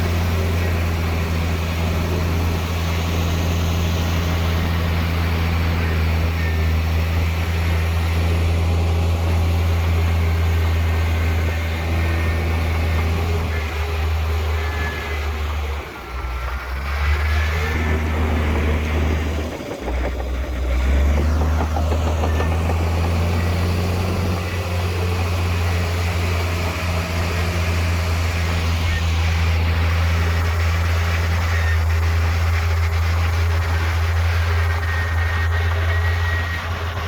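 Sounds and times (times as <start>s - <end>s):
diesel machinery engine droning: 0.0s - 37.0s.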